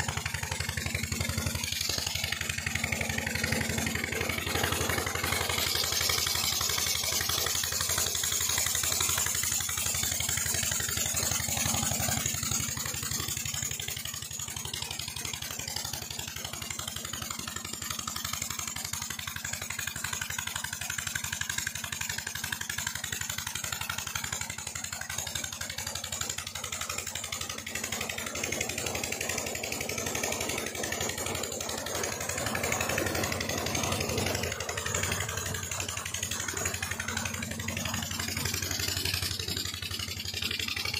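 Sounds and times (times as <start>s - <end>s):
diesel engine running: 0.0s - 18.8s, 23.0s - 40.9s
water rushing into a tank: 0.0s - 40.9s.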